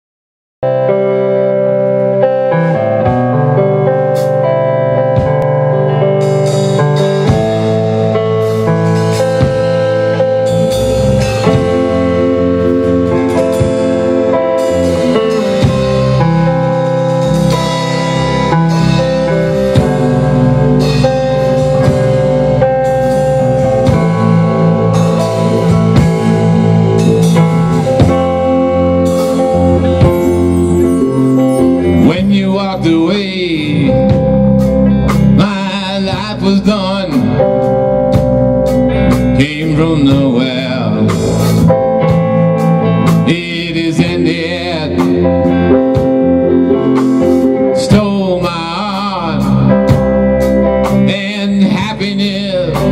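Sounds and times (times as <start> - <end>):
drum kit: 0.6 - 52.9
electric guitar: 0.6 - 52.9
wavering lead guitar line: 0.6 - 52.9.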